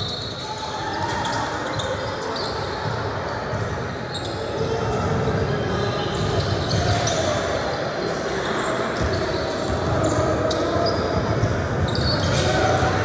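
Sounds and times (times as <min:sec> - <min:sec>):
hubbub of voices in echoing hall: 0:00.0 - 0:13.0.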